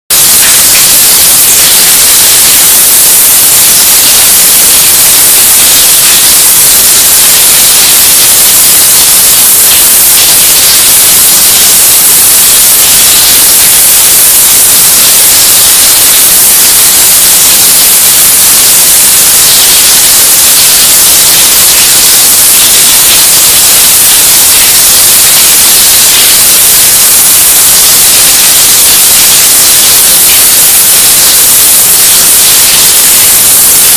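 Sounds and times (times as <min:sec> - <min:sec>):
loud distorted static hiss: 0:00.0 - 0:33.9.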